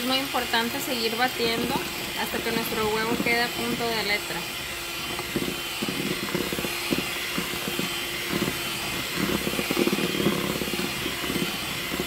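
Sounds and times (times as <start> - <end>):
electric hand mixer running: 0.0 - 12.0
beaters knocking plastic bowl: 1.4 - 4.2, 5.1 - 12.0.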